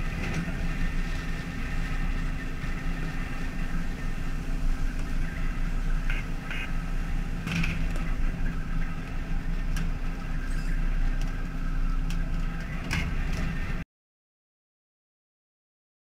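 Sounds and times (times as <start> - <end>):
boat engine humming: 0.0 - 13.8
water noise: 0.0 - 13.8.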